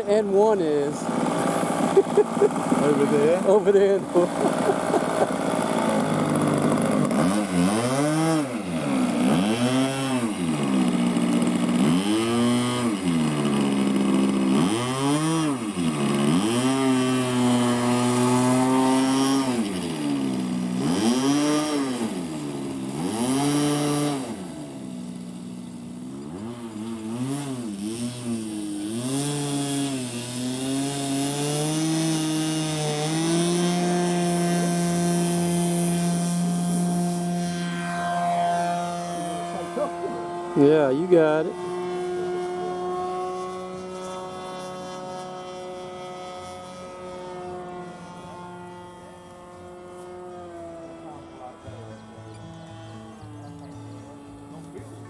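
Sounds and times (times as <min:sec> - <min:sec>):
model aircraft engine: 0:00.0 - 0:55.0.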